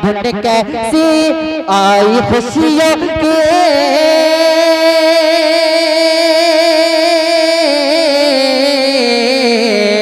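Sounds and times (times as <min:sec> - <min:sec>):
person singing long note with vibrato: 0:00.0 - 0:10.0.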